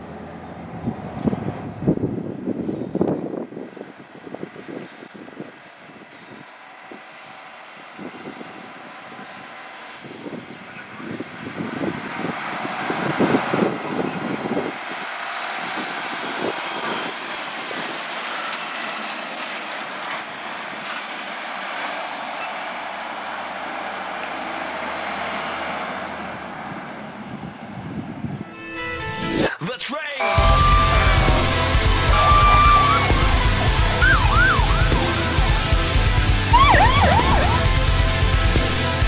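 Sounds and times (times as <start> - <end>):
fire engine driving past: 0.0 - 2.5, 3.2 - 29.2, 30.2 - 39.0
road noise: 0.0 - 29.5, 30.2 - 39.0.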